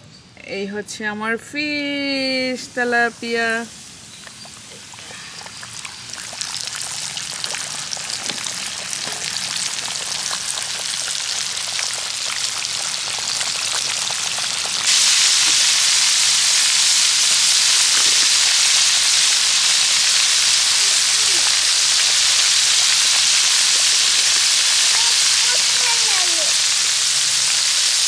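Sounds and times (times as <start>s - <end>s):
fish sizzling in hot oil: 3.2s - 28.0s.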